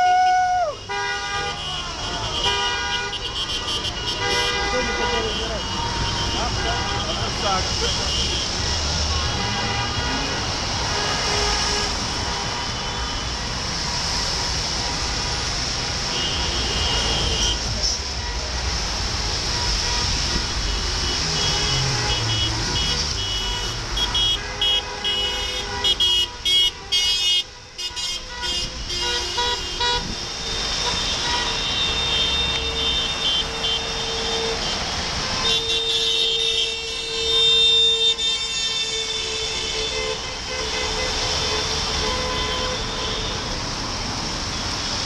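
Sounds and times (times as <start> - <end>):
cars driving on wet road: 0.0 - 45.0
car horns honking: 0.7 - 45.0.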